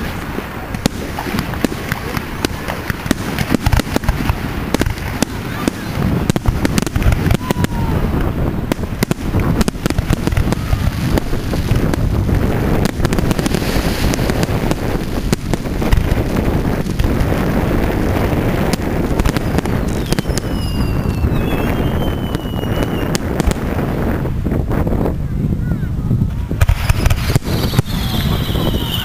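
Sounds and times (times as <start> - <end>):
fireworks cracking and popping: 0.0 - 25.3, 26.1 - 29.0
whistling fireworks: 0.0 - 29.0
wind rumble on microphone: 0.0 - 29.0.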